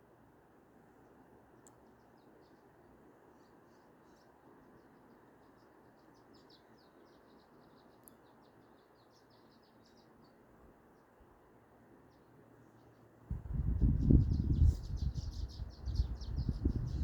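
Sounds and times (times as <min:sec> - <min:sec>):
small birds twittering: 0:01.6 - 0:11.2, 0:12.0 - 0:17.0.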